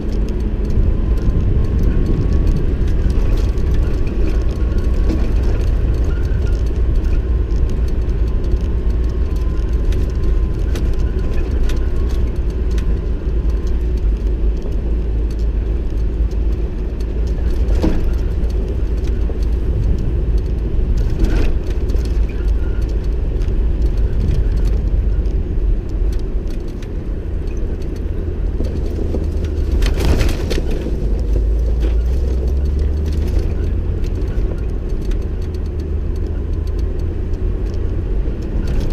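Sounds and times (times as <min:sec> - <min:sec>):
knocks and rattles over bumps: 0:00.0 - 0:38.9
vehicle engine and tyres rumbling: 0:00.0 - 0:38.9.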